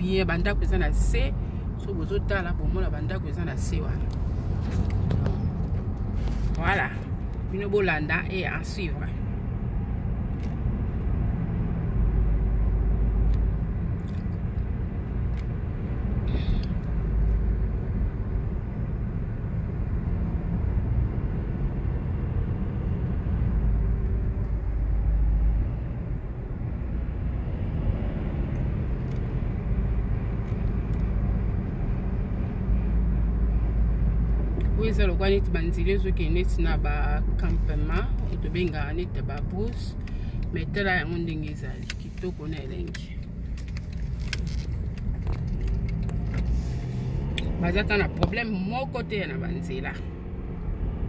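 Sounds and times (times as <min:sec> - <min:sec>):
car engine and tyre rumble: 0:00.0 - 0:51.0.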